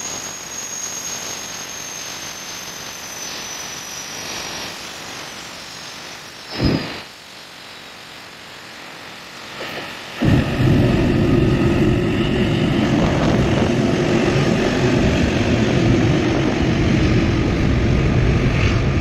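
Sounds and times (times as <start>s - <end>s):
jet engines rumbling: 0.0s - 7.1s, 8.6s - 19.0s.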